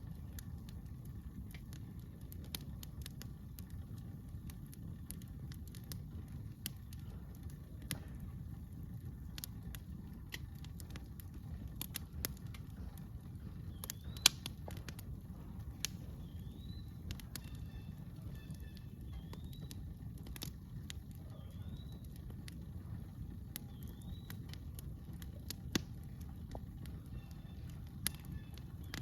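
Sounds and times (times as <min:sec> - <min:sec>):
campfire crackling and popping: 0:00.0 - 0:29.0
low steady rumble: 0:00.0 - 0:29.0.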